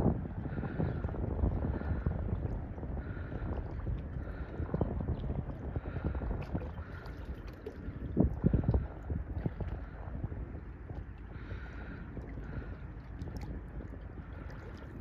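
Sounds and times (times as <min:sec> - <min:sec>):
choppy river water: 0:00.0 - 0:15.0
wind buffeting microphone: 0:00.0 - 0:15.0.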